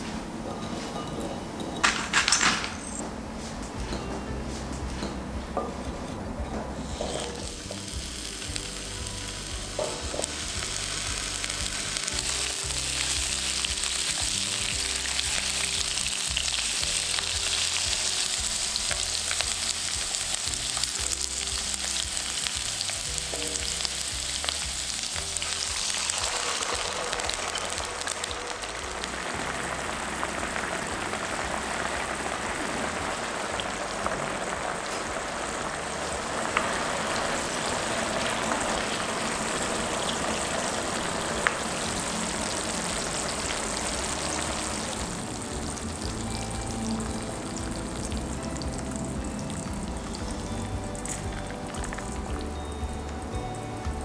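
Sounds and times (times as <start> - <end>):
potatoes sizzling in oil: 6.7 - 54.0.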